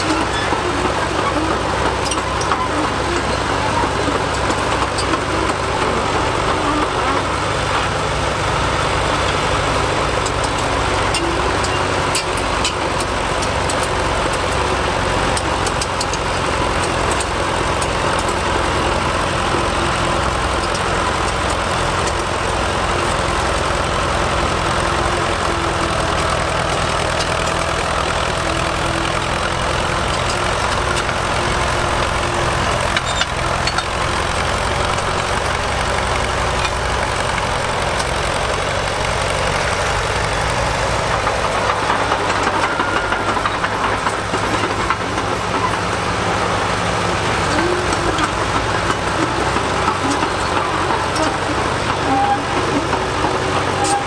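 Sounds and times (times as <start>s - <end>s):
bulldozer blade pushing soil: 0.0s - 54.0s
bulldozer engine running under load: 0.0s - 54.0s.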